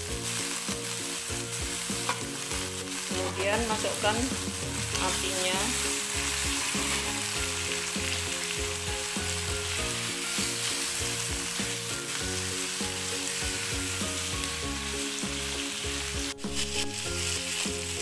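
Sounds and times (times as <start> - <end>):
meat sizzling in hot oil: 0.0 - 18.0
wooden spatula scraping wok: 0.1 - 18.0.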